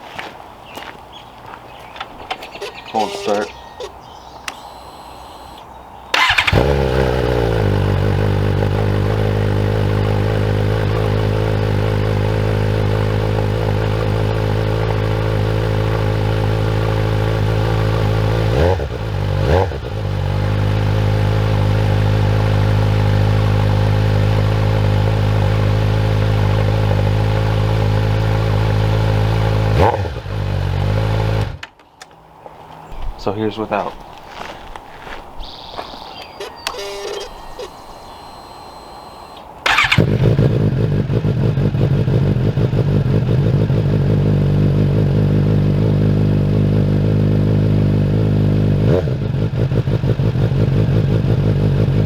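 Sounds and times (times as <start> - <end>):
motorcycle throttle blips: 2.0 - 32.1, 35.4 - 52.0
motorcycle engine idling: 2.4 - 31.4, 35.5 - 52.0.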